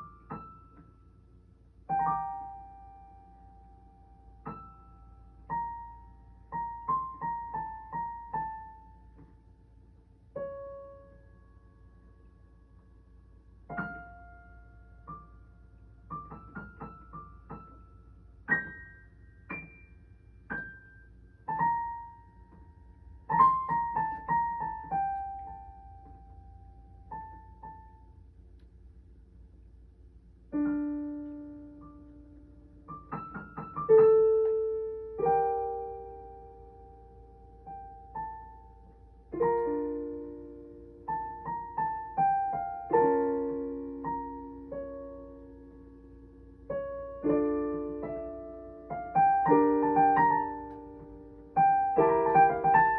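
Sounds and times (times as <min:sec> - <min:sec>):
solo piano: 0:00.0 - 0:52.9.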